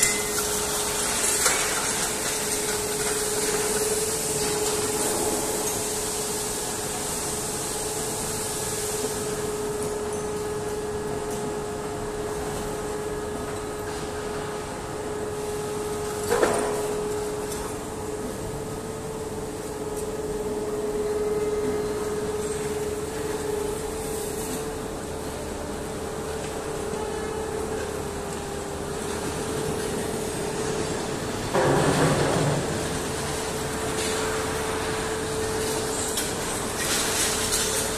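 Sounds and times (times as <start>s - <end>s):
machinery hum: 0.0s - 37.9s.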